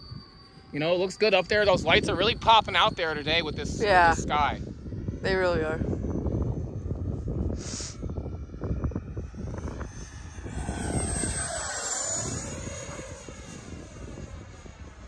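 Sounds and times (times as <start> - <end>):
model jet fan whining: 0.0 - 15.0
wind rumbling on microphone: 0.0 - 15.0.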